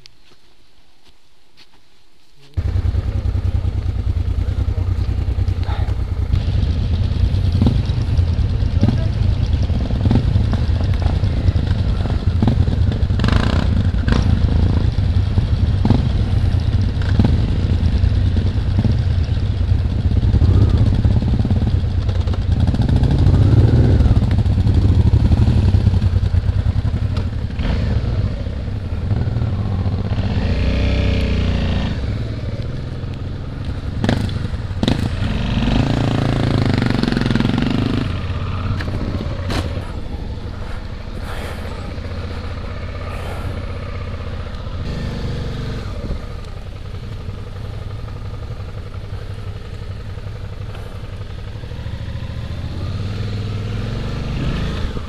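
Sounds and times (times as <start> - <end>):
other motorcycle engines: 2.4 - 55.0
motorcycle engine idling: 2.6 - 55.0.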